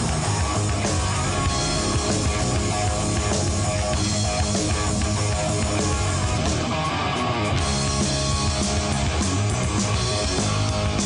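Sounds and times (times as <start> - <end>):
distorted electric guitar: 0.0 - 11.0
steady drum beat: 0.0 - 11.0.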